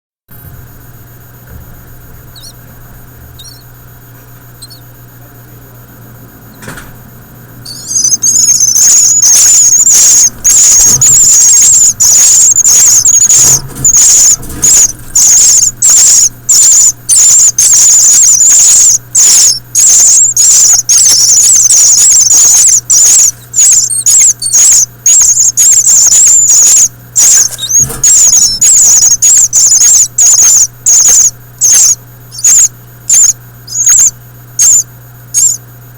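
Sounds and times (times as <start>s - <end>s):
nestlings chirping: 1.1s - 35.8s.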